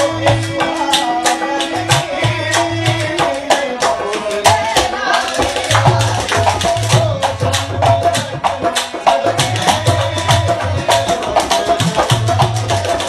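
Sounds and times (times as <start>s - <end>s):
tabla-like hand percussion: 0.0s - 13.0s.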